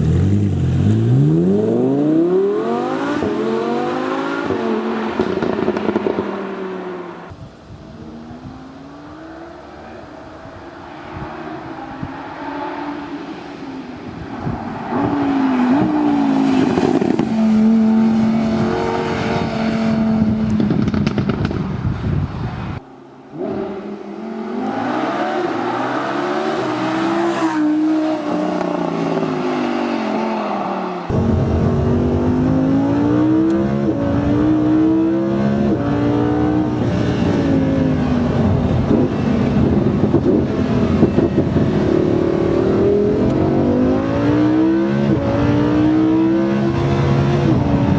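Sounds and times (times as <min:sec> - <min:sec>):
sports car engine accelerating: 0:00.0 - 0:21.9, 0:23.3 - 0:47.9.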